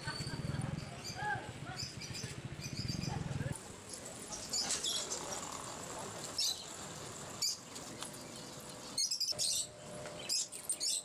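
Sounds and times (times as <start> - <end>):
caged birds chirping: 0.0 - 11.0.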